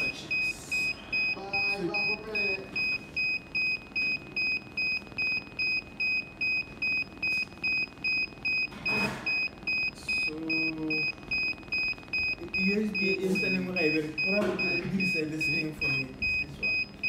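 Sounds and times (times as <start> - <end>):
short high-pitched beeps: 0.0 - 17.0.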